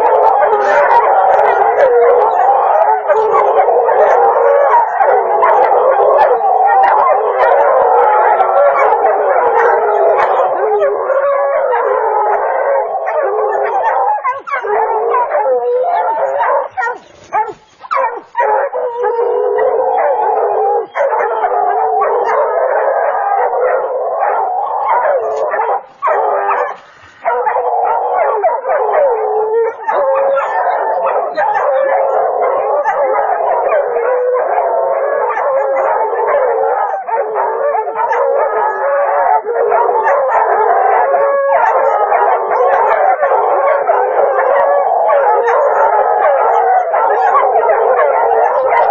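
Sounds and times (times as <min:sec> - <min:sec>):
hounds baying and howling: 0:00.0 - 0:48.9.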